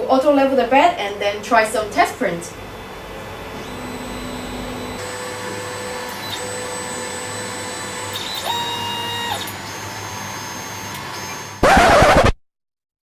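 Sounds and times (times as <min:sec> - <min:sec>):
stepper motors whining: 0:00.0 - 0:12.3.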